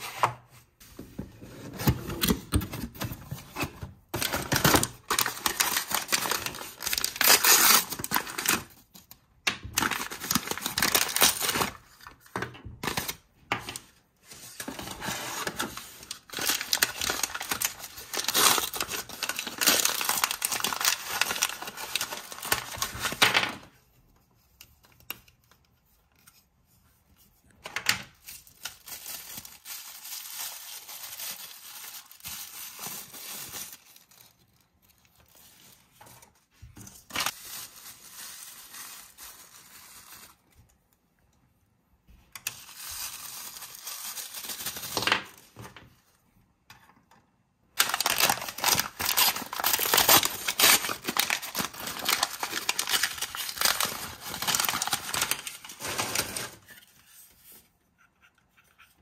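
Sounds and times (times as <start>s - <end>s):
packing paper crinkling: 1.8s - 23.7s, 28.1s - 40.8s, 42.4s - 45.5s, 47.8s - 57.6s.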